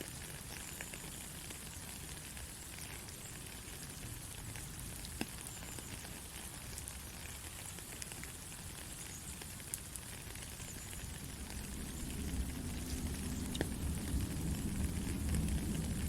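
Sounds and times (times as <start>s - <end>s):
raindrops ticking: 0.0s - 16.0s
soft rain falling: 0.0s - 16.0s.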